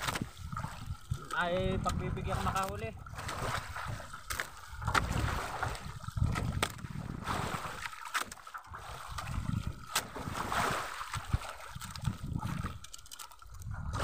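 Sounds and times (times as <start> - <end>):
wind gusting on microphone: 0.0 - 4.2, 4.8 - 7.8, 8.8 - 12.8, 13.5 - 14.0
water lapping against boat hull: 0.0 - 14.0.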